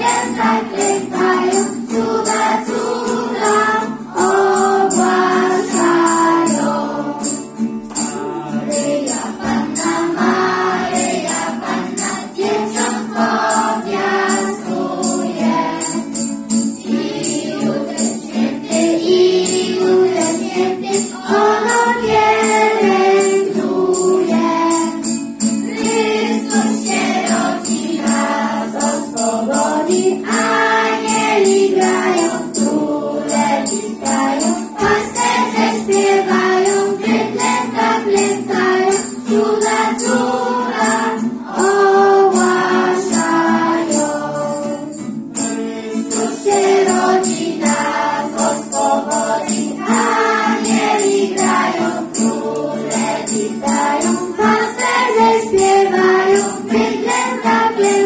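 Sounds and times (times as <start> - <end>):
children's choir singing carol: 0.0 - 58.0
sleigh bells shaking in rhythm: 0.0 - 58.0.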